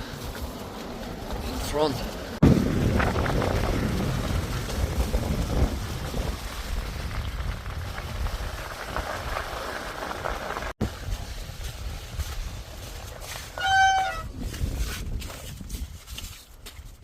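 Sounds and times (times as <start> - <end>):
bicycle tyres on road: 0.0 - 17.0.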